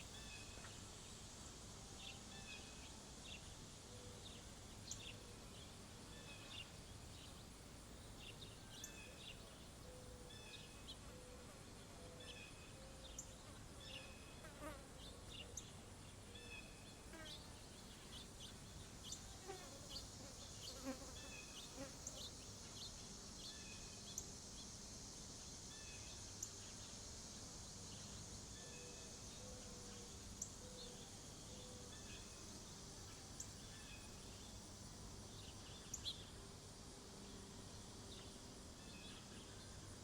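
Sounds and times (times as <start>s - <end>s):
insect buzz: 0.0s - 10.9s, 16.3s - 40.0s.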